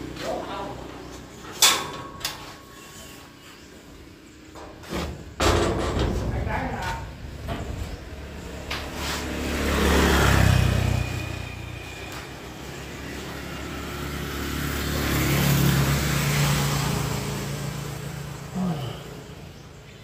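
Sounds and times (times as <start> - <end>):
vehicles passing on road: 0.0 - 20.0.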